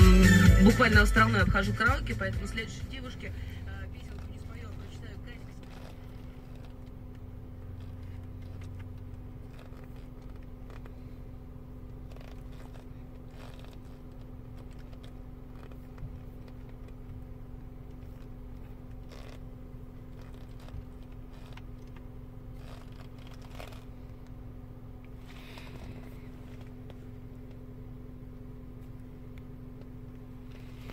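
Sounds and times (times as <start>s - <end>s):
car cabin hum: 0.0s - 30.9s.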